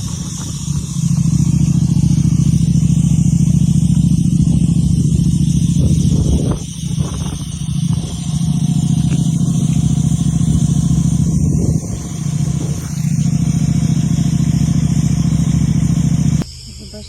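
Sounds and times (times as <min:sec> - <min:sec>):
vehicle engine low hum: 0:00.0 - 0:17.0.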